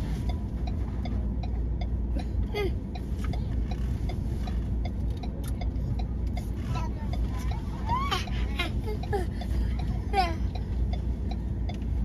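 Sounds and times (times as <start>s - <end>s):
engine and road rumble: 0.0s - 12.0s
indicator relay ticking: 0.2s - 12.0s.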